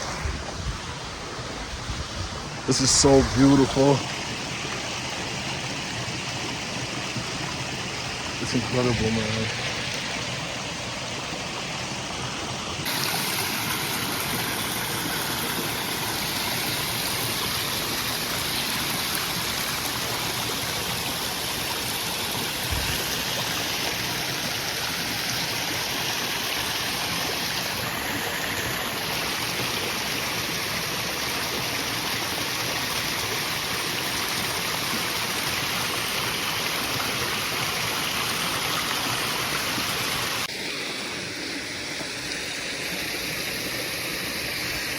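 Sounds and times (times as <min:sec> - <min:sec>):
flowing water rushing: 0:00.0 - 0:44.9.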